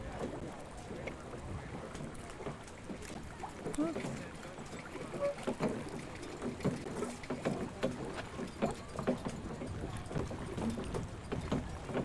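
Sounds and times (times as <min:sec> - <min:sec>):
waves lapping against boat hull: 0:00.0 - 0:12.0.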